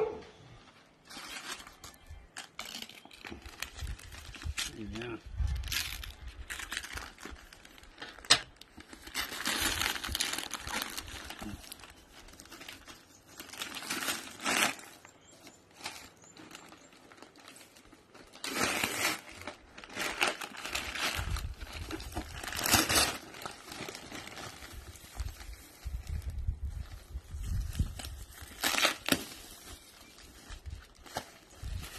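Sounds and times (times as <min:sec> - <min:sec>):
paper and plastic crinkling: 0:00.6 - 0:31.9.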